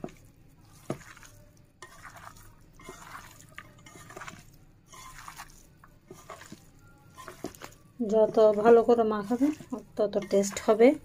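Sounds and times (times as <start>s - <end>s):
hand squelching raw meat: 0.0s - 10.7s.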